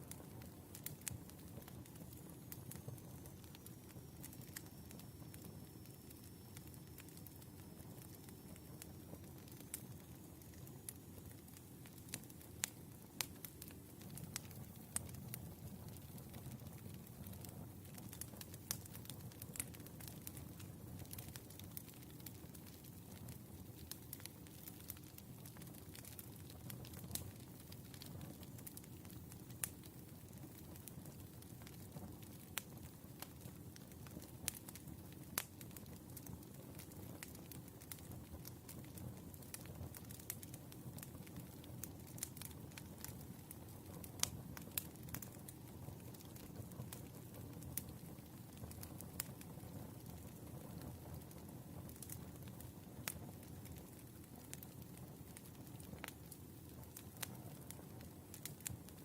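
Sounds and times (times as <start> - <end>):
low rumble of flames: 0.0 - 59.0
wood fire crackling: 0.0 - 59.0
loud fire pops: 0.1 - 59.0.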